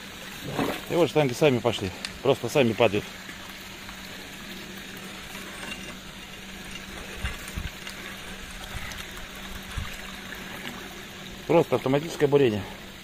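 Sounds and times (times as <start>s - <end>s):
submersible pump humming: 0.0s - 13.0s
water noise: 0.0s - 13.0s.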